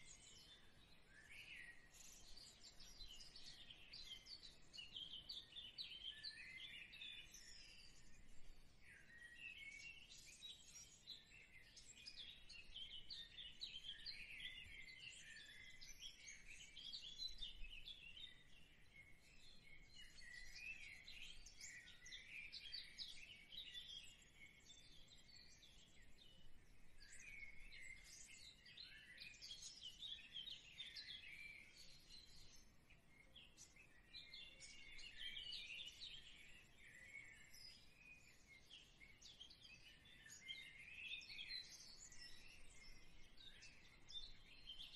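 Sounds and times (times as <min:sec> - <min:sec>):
faint birds chirping: 0:00.0 - 0:44.9.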